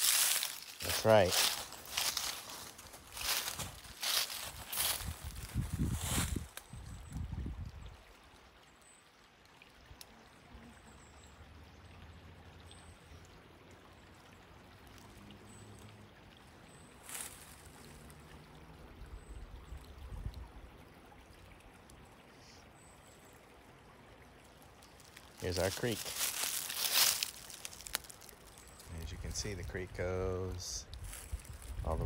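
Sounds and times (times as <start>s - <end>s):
creek trickling: 0.0s - 32.0s.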